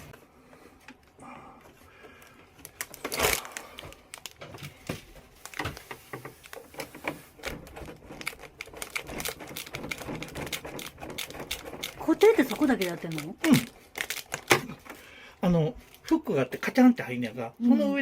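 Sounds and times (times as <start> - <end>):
air conditioner clicking and rattling: 0.5 - 15.0.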